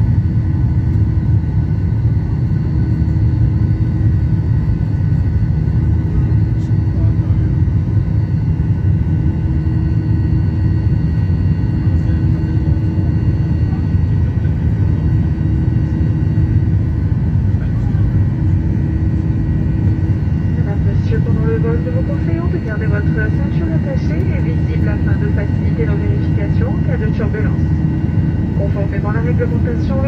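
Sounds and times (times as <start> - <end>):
jet engine and airflow rumble: 0.0 - 30.0.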